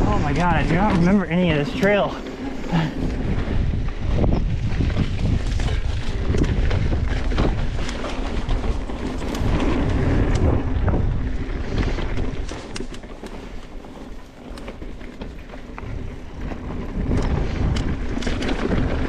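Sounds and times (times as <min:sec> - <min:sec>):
bike tyres on dirt: 0:00.0 - 0:19.0
wind rushing over microphone: 0:00.0 - 0:19.0
bike rattling clicks: 0:00.1 - 0:19.0.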